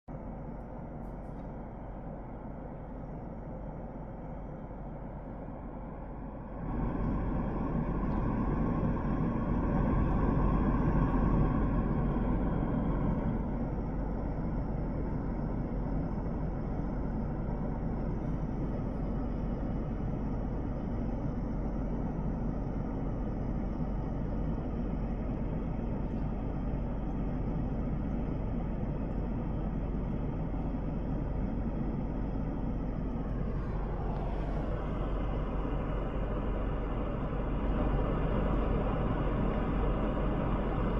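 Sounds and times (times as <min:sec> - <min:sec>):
motor running low rumble: 0:00.0 - 0:40.9.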